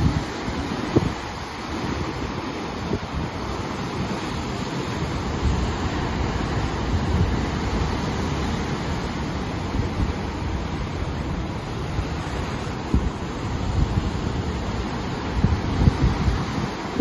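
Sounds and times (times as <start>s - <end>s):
surf breaking over rocks: 0.0s - 17.0s
wind rumble on microphone: 0.0s - 17.0s.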